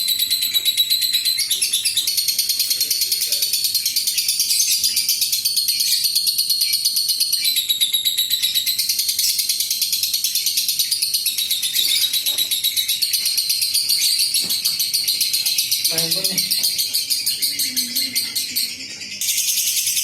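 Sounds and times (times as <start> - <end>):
bird rattling trill: 0.0 - 20.0.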